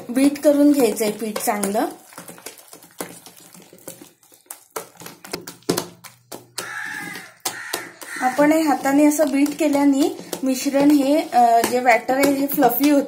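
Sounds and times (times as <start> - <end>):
hand beating batter in steel bowl: 0.0 - 13.0.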